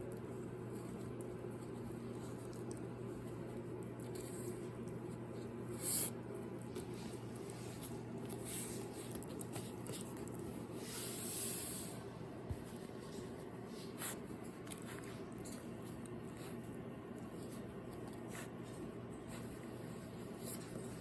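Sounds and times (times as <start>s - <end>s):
puppy snuffling breaths: 0.5s - 21.0s.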